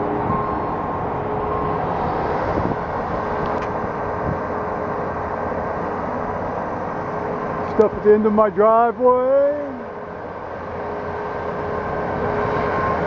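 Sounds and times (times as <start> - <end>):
heavy construction machinery engine: 0.0 - 13.0.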